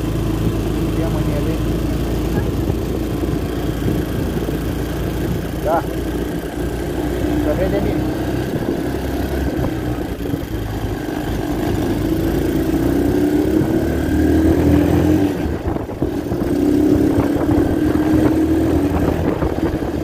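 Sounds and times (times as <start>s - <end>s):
quad bike engine: 0.0s - 20.0s.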